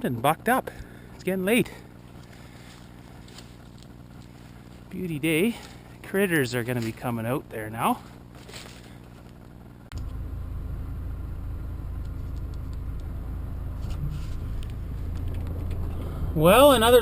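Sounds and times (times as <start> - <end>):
vehicle engine rumbling: 0.0 - 17.0
quiet low hum: 0.1 - 17.0.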